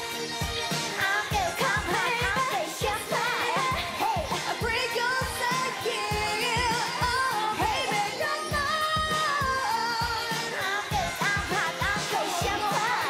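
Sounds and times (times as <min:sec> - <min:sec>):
electronic beat with kick drum: 0:00.0 - 0:13.0
woman singing: 0:00.7 - 0:13.0.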